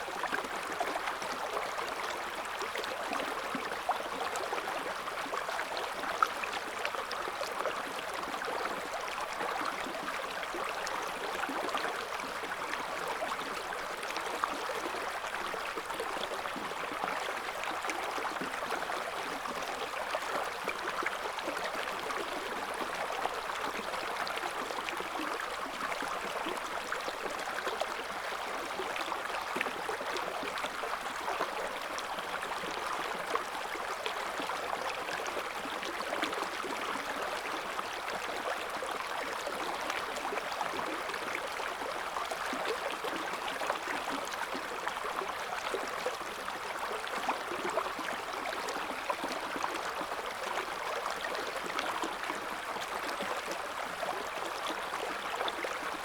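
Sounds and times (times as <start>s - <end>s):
river water flowing and burbling: 0.0s - 56.0s.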